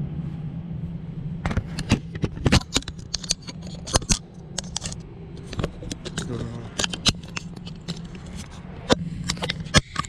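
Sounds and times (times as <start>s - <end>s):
small hard objects clicking and rattling: 1.8s - 10.0s.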